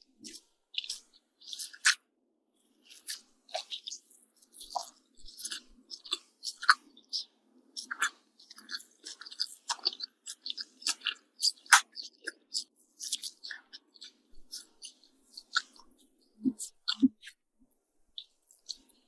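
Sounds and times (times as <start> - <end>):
close-miked chewing: 0.1 - 2.0, 2.8 - 17.4, 18.1 - 19.0.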